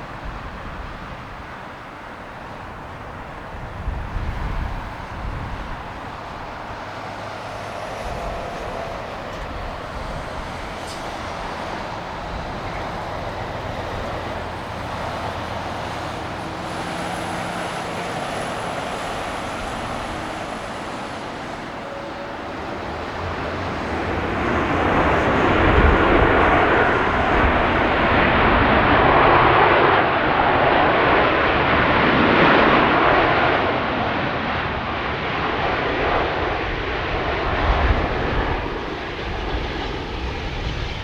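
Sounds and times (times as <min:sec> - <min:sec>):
distant jet airliner rush: 0:00.0 - 0:41.0.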